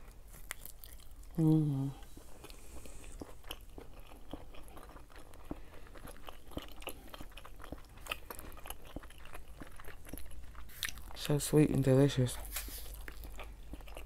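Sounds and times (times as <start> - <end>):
close chewing with mouth clicks: 0.0 - 14.0.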